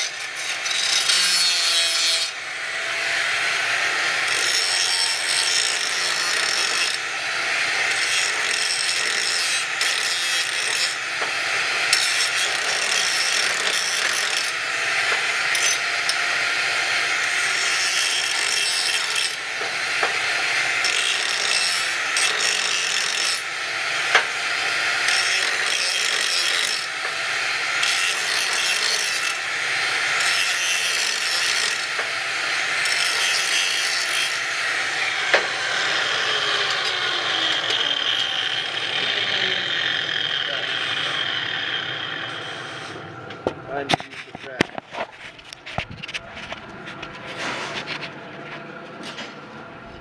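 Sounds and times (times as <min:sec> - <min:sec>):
angle grinder grinding steel: 0:00.0 - 0:48.2.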